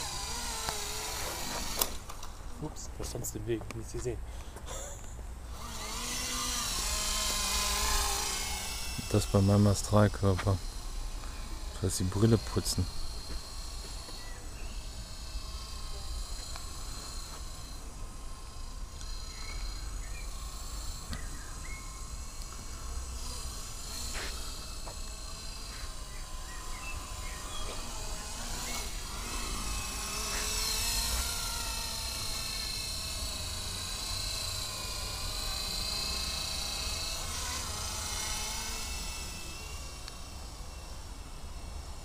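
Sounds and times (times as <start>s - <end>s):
rc helicopter rotor whine: 0.0s - 42.0s.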